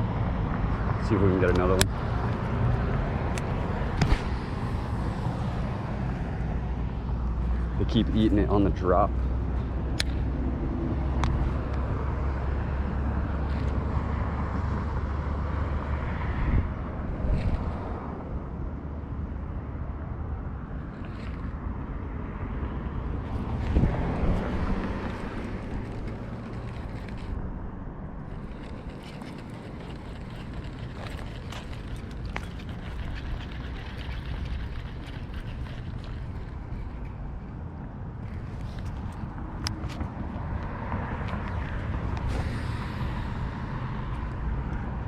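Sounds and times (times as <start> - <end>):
faint engine hum: 0.0 - 45.0
passing motor vehicle rumble: 0.0 - 45.0.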